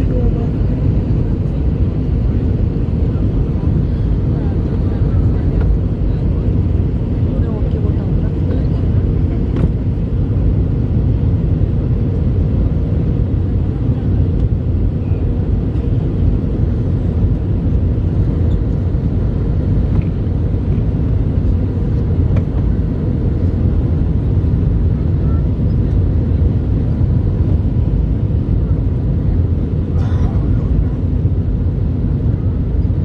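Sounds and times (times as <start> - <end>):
airplane cabin engine rumble: 0.0 - 33.0.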